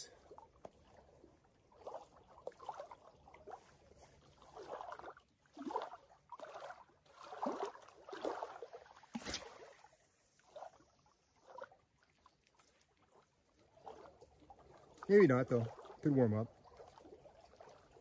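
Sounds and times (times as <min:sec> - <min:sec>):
lake waves lapping against shore: 0:00.0 - 0:18.0.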